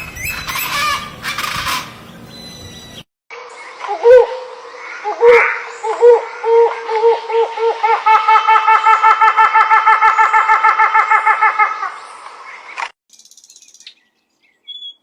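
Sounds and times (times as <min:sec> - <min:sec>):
bird calling loudly: 0:00.0 - 0:11.4, 0:13.2 - 0:15.0.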